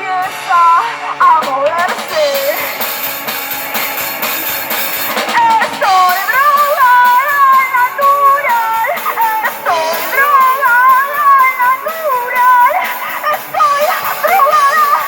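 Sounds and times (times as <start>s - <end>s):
person singing: 0.0s - 15.0s
live rock band playing: 0.1s - 15.0s.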